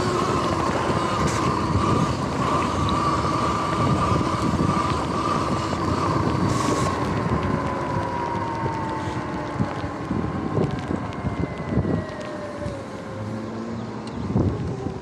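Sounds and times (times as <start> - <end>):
electric bike motor whine: 0.0 - 15.0
tyres on wet pavement: 0.0 - 15.0
wind on microphone: 0.0 - 15.0.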